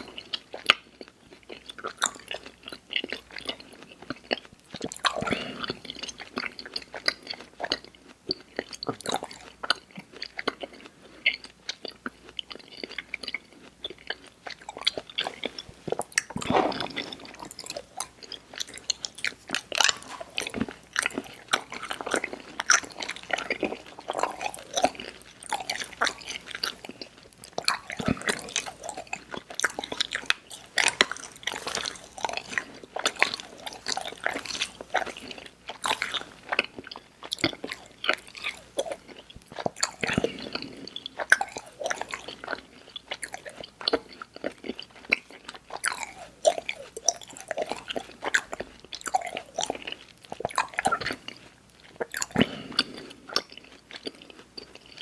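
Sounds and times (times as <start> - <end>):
chewing sticky candy: 0.0 - 55.0.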